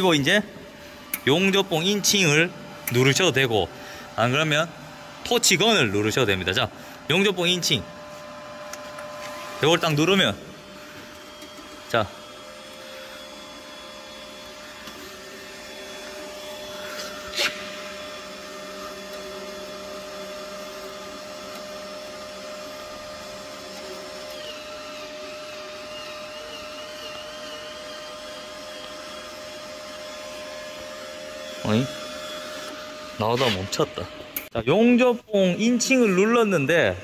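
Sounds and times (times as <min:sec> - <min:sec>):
welder wire-feed motor whirring: 0:00.0 - 0:34.6.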